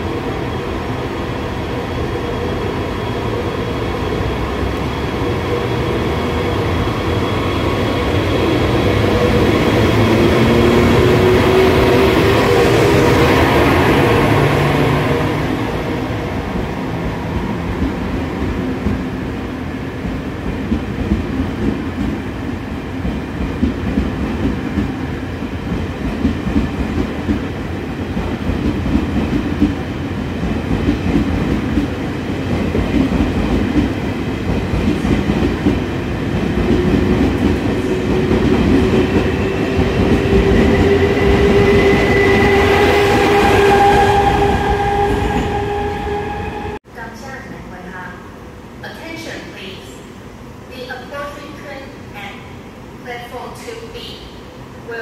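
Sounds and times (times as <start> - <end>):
train wheels rumbling on rails: 0.0 - 46.8.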